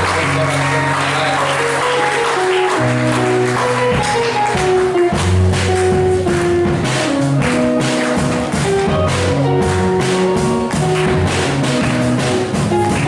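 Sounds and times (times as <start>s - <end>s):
clapping: 0.0s - 6.6s, 7.4s - 8.6s, 9.6s - 13.0s
music with bass line: 0.0s - 13.0s.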